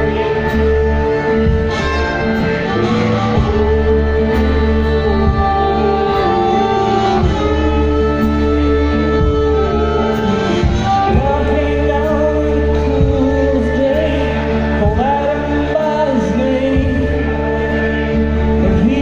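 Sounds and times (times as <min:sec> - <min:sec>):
harmonica: 0:00.0 - 0:19.0
live blues band playing: 0:00.0 - 0:19.0
woman singing long notes: 0:00.0 - 0:19.0.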